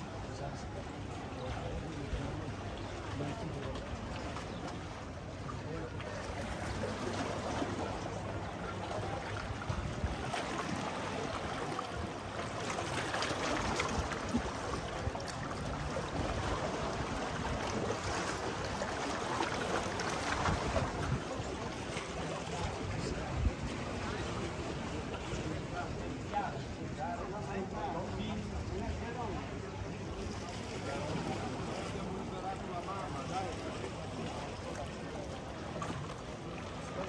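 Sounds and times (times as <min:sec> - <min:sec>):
small waves lapping: 0:00.0 - 0:37.0
wind: 0:00.0 - 0:37.0.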